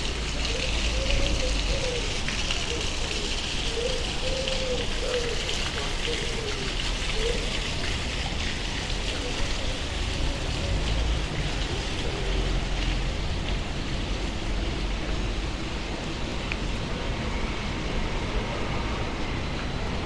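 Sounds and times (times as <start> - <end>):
distant voices of passers-by: 0.0 - 20.0.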